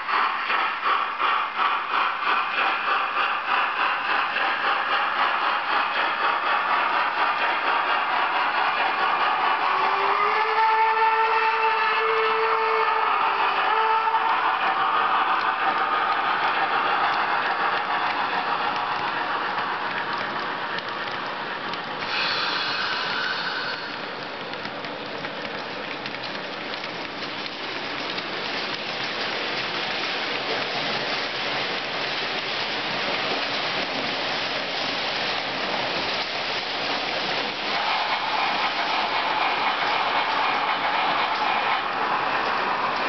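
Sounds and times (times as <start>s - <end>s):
model train wheels rattling on rails: 0.0s - 11.7s, 13.2s - 43.0s.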